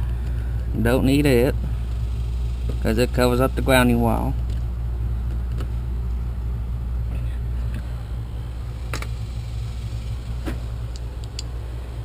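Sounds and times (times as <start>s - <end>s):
motor rumbling: 0.0s - 12.0s.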